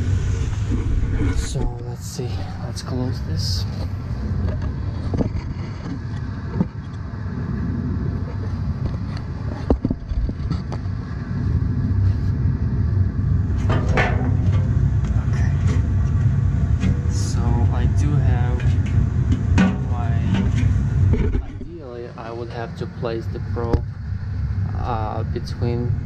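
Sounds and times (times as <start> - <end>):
furnace blower rumbling: 0.0 - 26.0.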